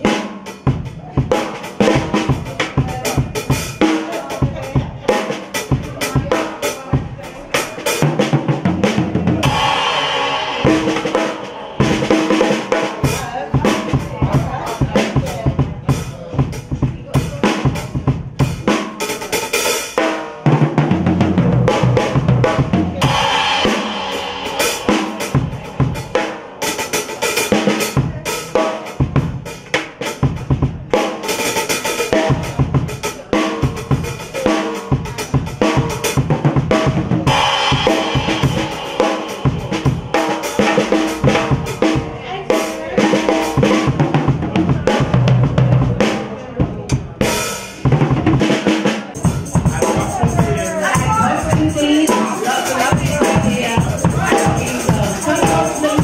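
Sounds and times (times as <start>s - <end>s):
drum kit beat: 0.0s - 56.0s.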